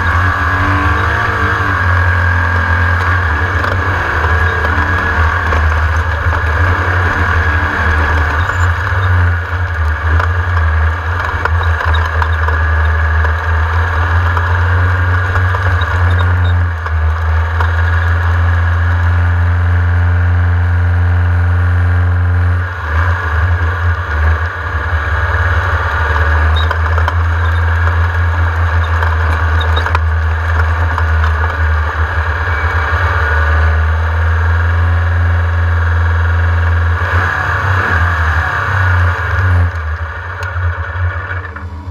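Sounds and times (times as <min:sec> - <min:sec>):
race car engine droning: 0:00.0 - 0:41.9.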